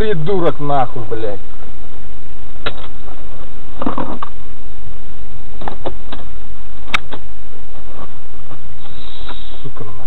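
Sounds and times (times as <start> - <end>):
distorted noise inside moving car: 0.0 - 10.0.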